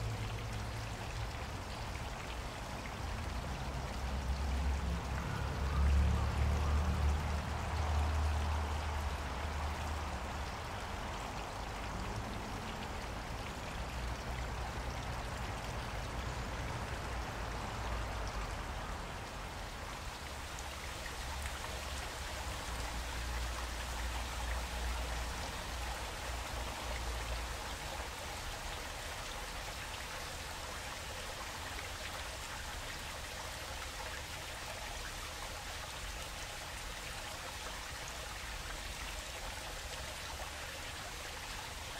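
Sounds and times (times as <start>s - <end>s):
stream splashing over rocks: 0.0s - 41.9s.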